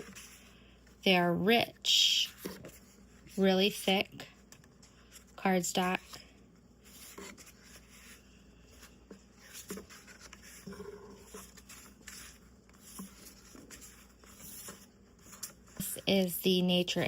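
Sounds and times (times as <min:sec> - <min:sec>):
cards and books rustling: 0:00.0 - 0:17.0.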